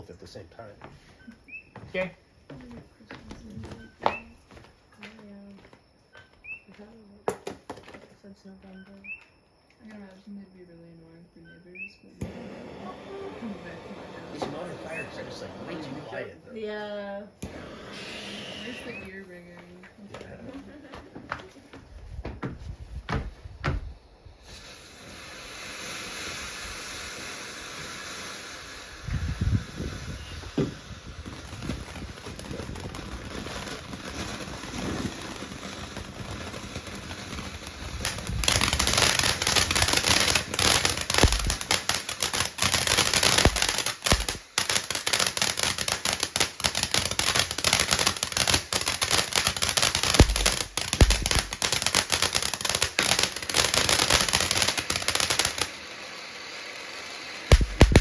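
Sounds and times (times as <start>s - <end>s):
fireworks bangs and thumps: 1.8s - 5.8s, 6.8s - 8.2s, 12.2s - 16.8s, 17.4s - 56.1s, 57.4s - 58.0s
rapid crackling firecracker pops: 3.1s - 5.7s, 6.4s - 8.1s, 12.2s - 16.3s, 17.4s - 22.2s, 23.1s - 58.0s.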